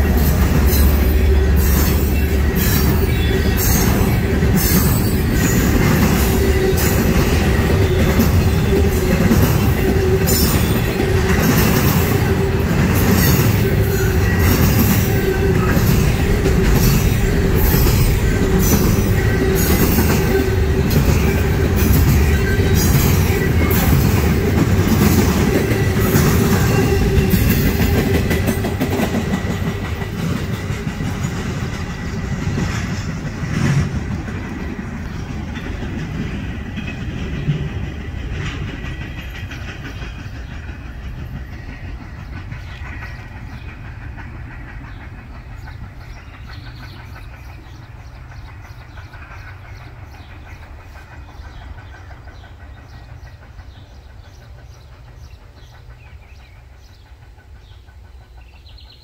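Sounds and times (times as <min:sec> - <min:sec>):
train wheels clacking over joints: 0:00.0 - 0:59.0.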